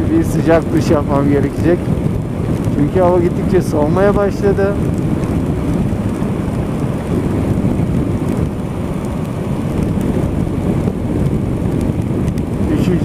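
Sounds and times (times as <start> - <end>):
wind and rain roaring on microphone: 0.0 - 13.0.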